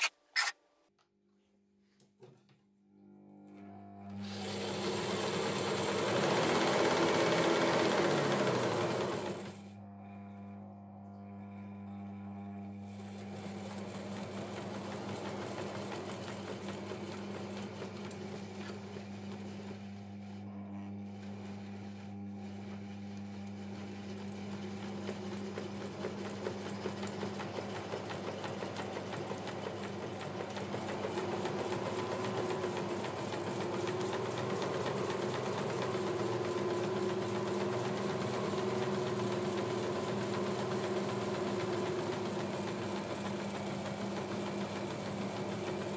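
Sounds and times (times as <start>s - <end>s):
belt sander motor hum: 3.6s - 10.6s, 11.4s - 45.9s
belt whirring over rollers: 4.2s - 9.6s, 13.0s - 20.4s, 21.0s - 45.9s.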